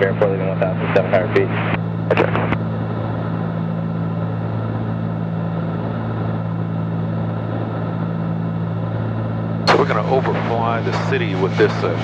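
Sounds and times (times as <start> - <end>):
propeller aircraft engines droning: 0.0 - 12.0.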